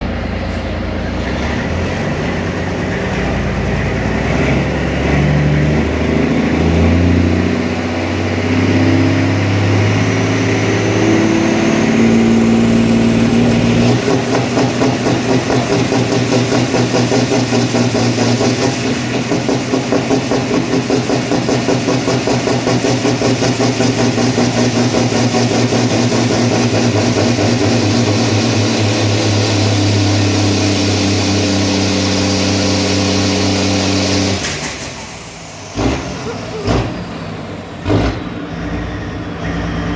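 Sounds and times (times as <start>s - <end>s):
diesel engine on a dynamometer: 0.0s - 39.9s.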